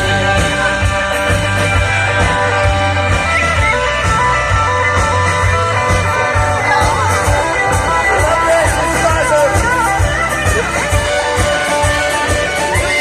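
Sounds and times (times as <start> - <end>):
guitar held stepping notes: 0.0 - 13.0
live rock band instrumental: 0.0 - 13.0.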